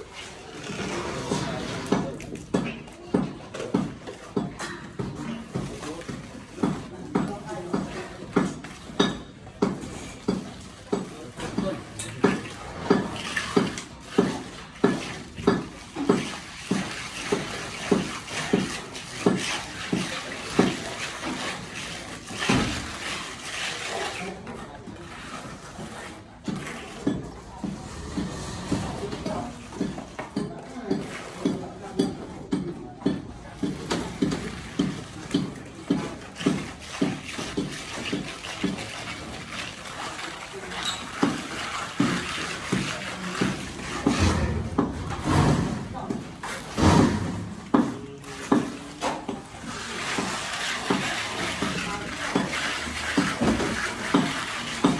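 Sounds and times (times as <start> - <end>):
trowel strokes on wet render: 0.0 - 32.0, 33.5 - 54.9.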